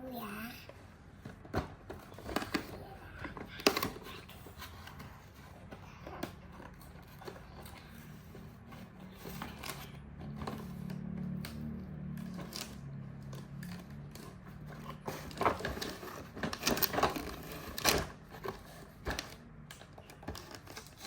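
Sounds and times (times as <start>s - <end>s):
packaging clicks and crinkles: 1.8s - 21.0s.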